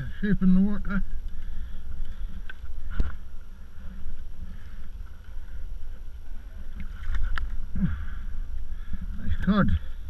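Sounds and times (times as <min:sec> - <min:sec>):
water lapping against hull: 0:01.3 - 0:10.0.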